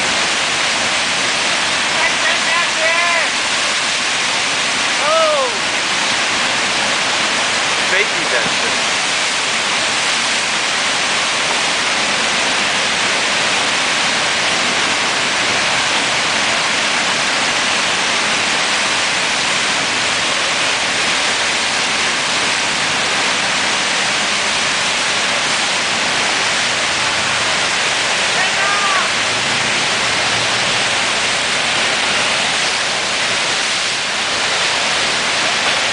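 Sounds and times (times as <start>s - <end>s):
rushing whitewater: 0.0s - 35.9s.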